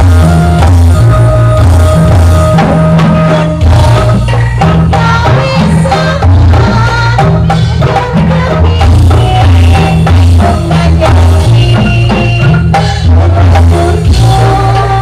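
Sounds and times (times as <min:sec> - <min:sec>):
deep bass line: 0:00.0 - 0:15.0
fast drumming: 0:00.0 - 0:15.0
struck percussion: 0:00.0 - 0:15.0.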